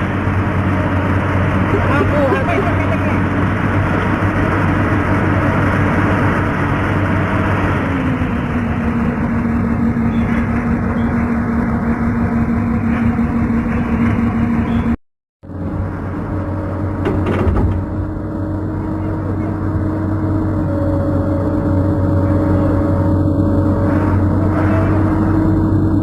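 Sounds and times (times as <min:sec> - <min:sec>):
heavy engine running: 0:00.0 - 0:26.0.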